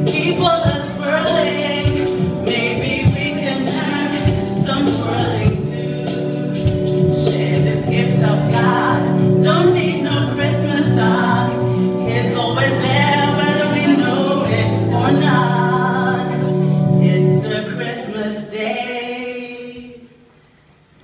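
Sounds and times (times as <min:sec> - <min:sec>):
choir singing: 0:00.0 - 0:20.1
backing music: 0:00.0 - 0:21.0.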